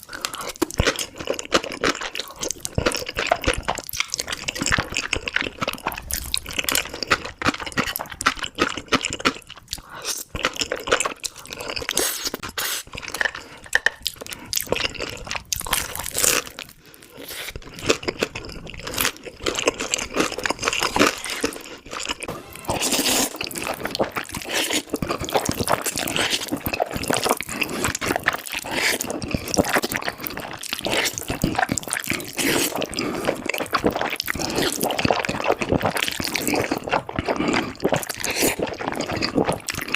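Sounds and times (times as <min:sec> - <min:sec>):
slurping noodles: 0:00.0 - 0:15.3, 0:15.9 - 0:39.9
wet chewing: 0:00.0 - 0:39.9.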